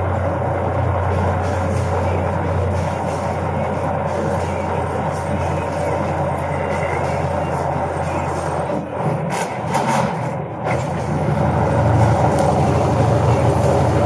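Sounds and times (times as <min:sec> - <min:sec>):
diesel truck engine drone: 0:00.0 - 0:14.0.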